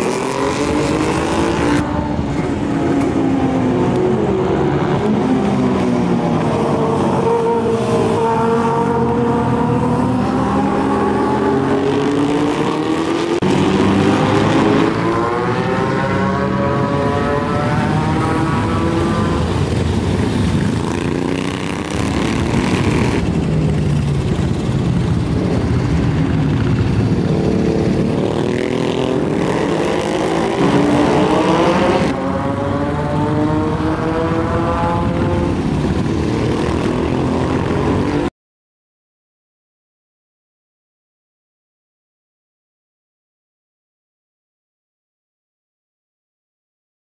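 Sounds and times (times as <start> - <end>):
motorcycle engines revving: 0.0 - 38.3.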